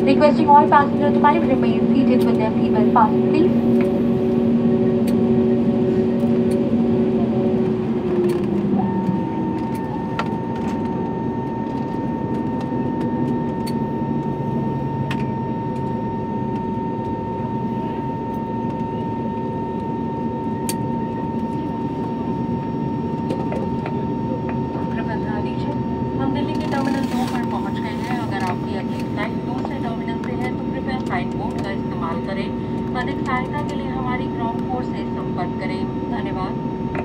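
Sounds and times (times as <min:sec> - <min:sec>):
aircraft engine and airflow rumble: 0:00.0 - 0:37.0
steady whine: 0:00.0 - 0:37.0.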